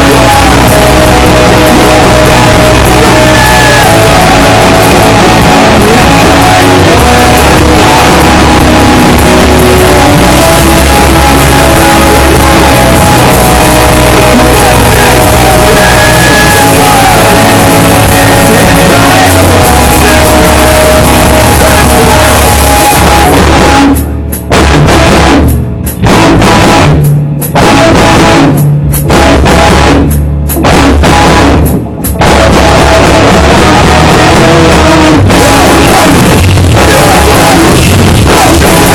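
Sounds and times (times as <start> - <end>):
distorted heavy rock band: 0.0 - 38.9.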